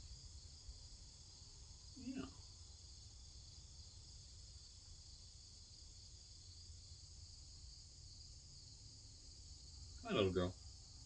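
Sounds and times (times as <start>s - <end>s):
faint insect chorus: 0.0s - 11.0s.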